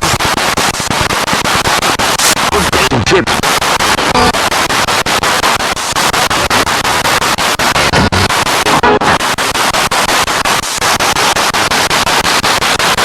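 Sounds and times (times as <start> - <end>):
snatches of broadcast voices: 0.0 - 11.4
radio static chopped into bursts: 0.0 - 13.0
snatches of broadcast music: 0.0 - 13.0.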